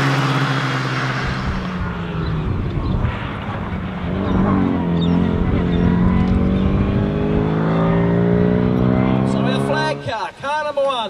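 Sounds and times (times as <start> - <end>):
car engine accelerating hard: 0.0 - 10.1.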